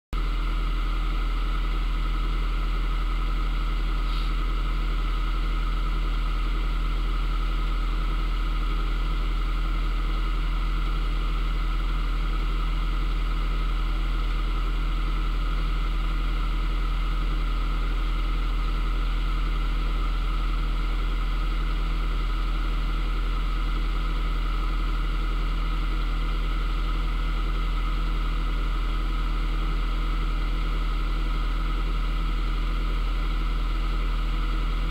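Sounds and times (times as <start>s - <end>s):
boat engine low drone: 0.2s - 34.9s.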